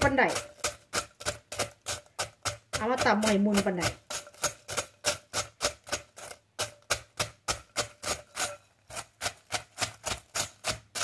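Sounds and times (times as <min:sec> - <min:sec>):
pestle pounding in metal mortar: 0:00.0 - 0:11.0.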